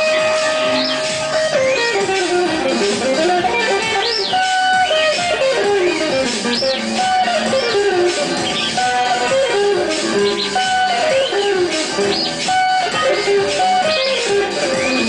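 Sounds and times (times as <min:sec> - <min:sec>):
electric guitar with delay: 0:00.0 - 0:15.0
high swooping tones: 0:00.0 - 0:15.0.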